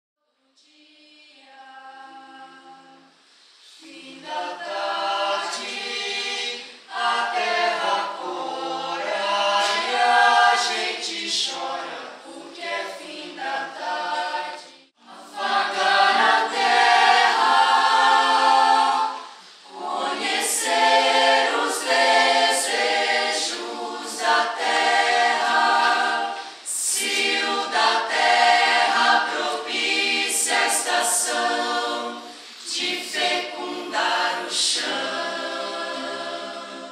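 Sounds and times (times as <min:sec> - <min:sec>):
mixed choir singing unaccompanied: 0:00.6 - 0:03.1, 0:03.7 - 0:36.9.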